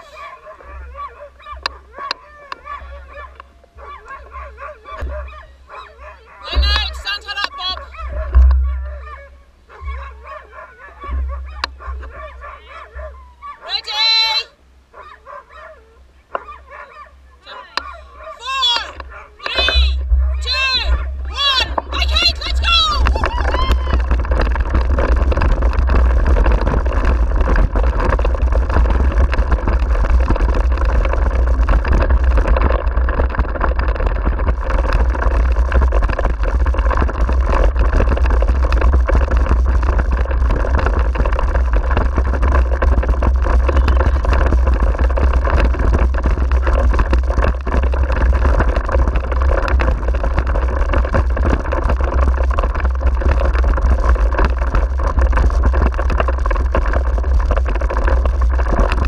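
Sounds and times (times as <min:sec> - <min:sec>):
wheels and frame rattling: 0:00.0 - 0:59.0
wheels rumbling on gravel: 0:00.0 - 0:59.0
wind buffeting camera: 0:00.0 - 0:59.0.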